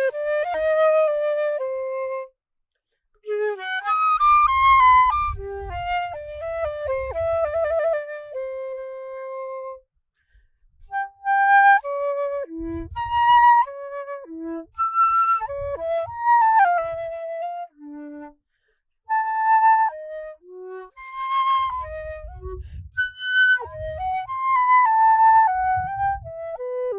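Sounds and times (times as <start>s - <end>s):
flute solo melody: 0.0s - 2.3s, 3.3s - 9.8s, 11.0s - 18.4s, 19.2s - 26.9s.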